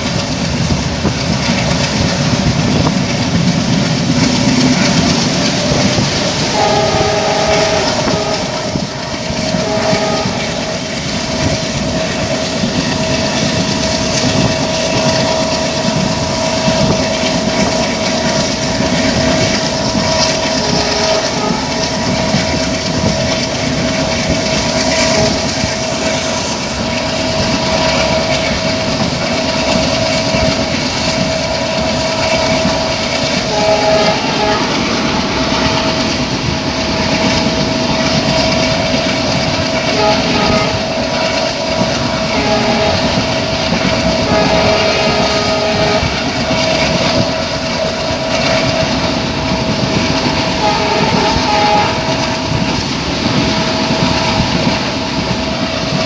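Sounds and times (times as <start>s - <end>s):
continuous train whine: 0.0s - 56.0s
wheels rushing on rail: 0.0s - 56.0s.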